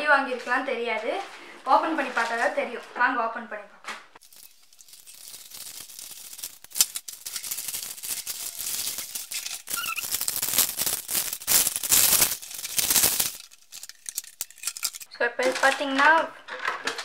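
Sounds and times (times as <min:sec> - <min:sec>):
plastic packaging crinkling: 0:00.2 - 0:03.1, 0:04.2 - 0:15.8.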